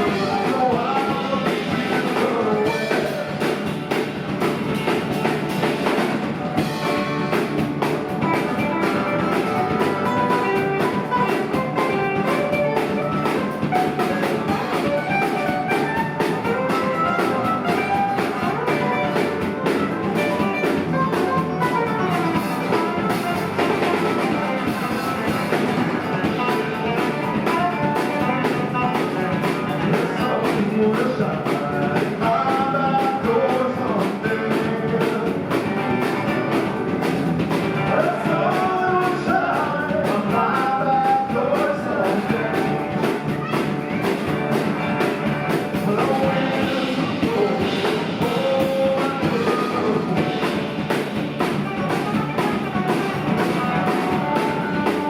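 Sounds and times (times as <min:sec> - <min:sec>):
lead guitar lines: 0:00.0 - 0:55.0
live rock band playing: 0:00.0 - 0:55.0.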